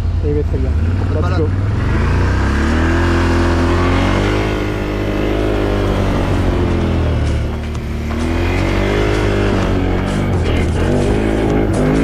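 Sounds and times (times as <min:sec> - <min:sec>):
off-road vehicle engine accelerating: 0:00.0 - 0:12.0.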